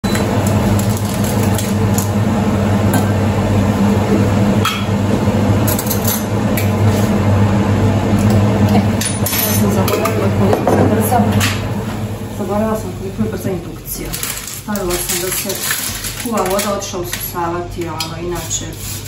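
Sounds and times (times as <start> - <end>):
pot of water boiling: 0.0 - 9.0, 9.6 - 17.7.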